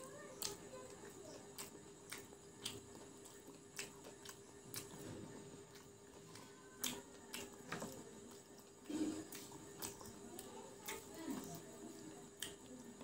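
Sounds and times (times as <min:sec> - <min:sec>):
chewing crunchy fritters: 0:00.0 - 0:13.0
faint steady hum: 0:00.0 - 0:13.0.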